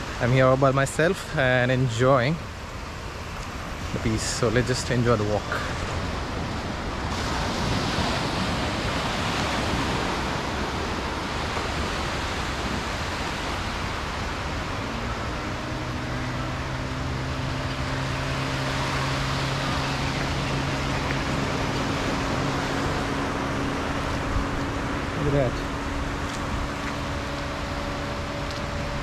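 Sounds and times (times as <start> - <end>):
low engine drone: 0.0 - 29.0
sea waves breaking on beach: 0.0 - 29.0.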